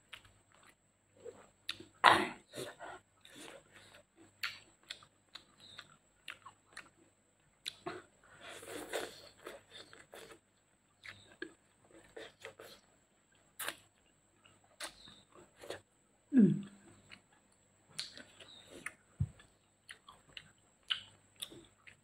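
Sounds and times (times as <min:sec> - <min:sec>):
person chewing food: 0:00.0 - 0:15.9, 0:16.5 - 0:22.0.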